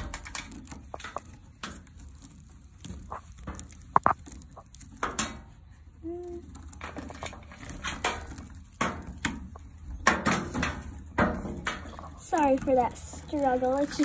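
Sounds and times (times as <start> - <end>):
rope scraping and rustling: 0.0 - 14.0.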